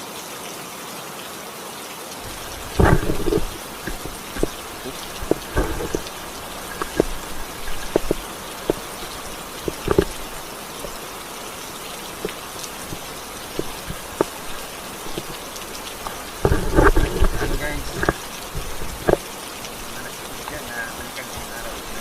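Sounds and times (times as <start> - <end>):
steady rain falling: 0.0 - 22.0
drops tapping close: 2.3 - 22.0.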